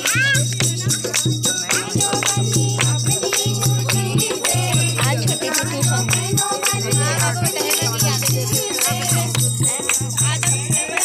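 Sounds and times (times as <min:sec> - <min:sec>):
hand claps: 0:00.0 - 0:11.0
hand drum beat: 0:00.0 - 0:11.0
women singing folk song: 0:00.6 - 0:11.0.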